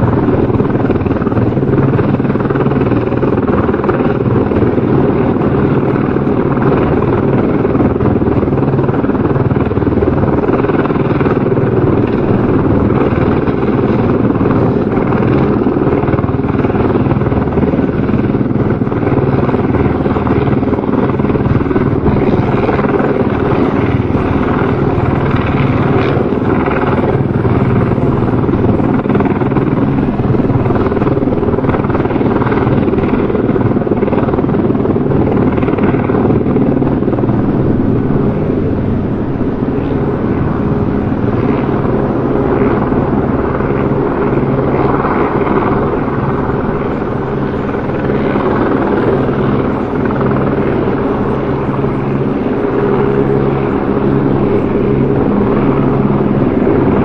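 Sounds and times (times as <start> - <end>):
helicopter rotor and turbine: 0.0 - 57.0.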